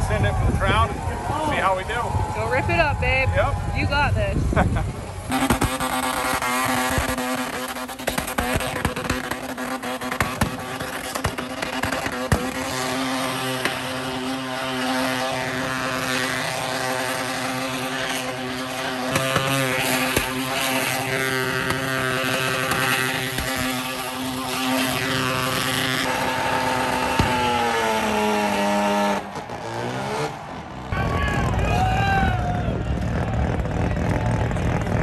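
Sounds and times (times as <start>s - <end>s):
van engine at high revs: 0.0s - 35.0s.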